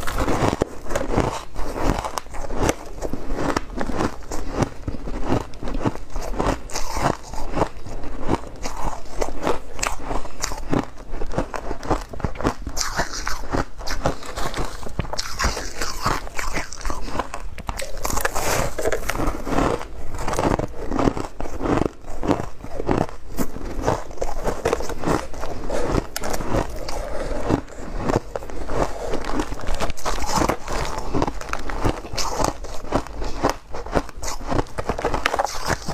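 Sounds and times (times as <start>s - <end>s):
crunching and chewing ice: 0.0s - 35.9s.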